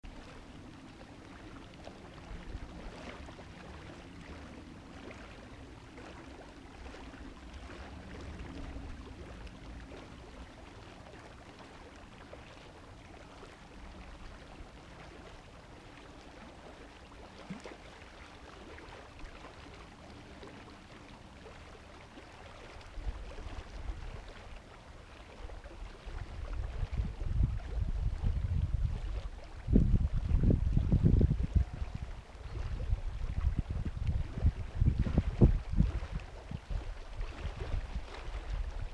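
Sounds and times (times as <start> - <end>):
small waves lapping: 0.0 - 38.9
wind rumbling on microphone: 0.0 - 38.9.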